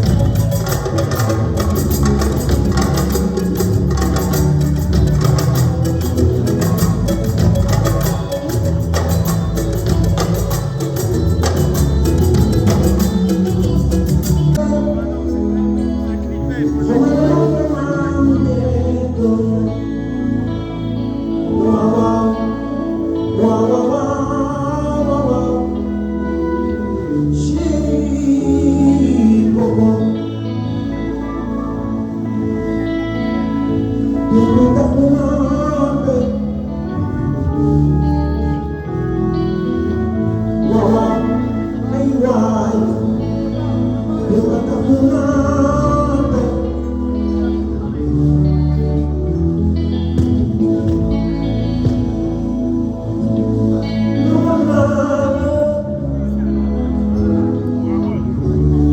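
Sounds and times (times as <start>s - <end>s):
lead vocal singing: 0.0s - 48.5s, 50.4s - 58.9s
live band playing chords: 0.0s - 58.9s.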